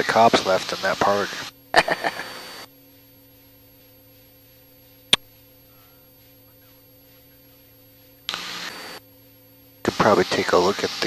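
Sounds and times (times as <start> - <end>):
faint radio line hum: 0.0 - 11.0.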